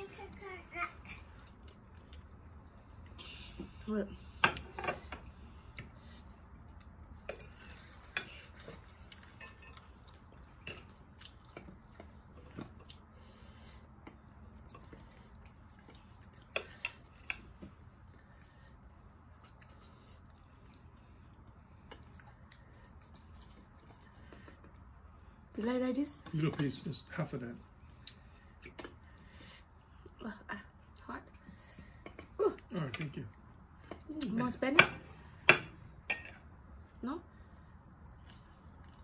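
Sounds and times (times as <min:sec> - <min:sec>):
low room hum: 0:00.0 - 0:39.0.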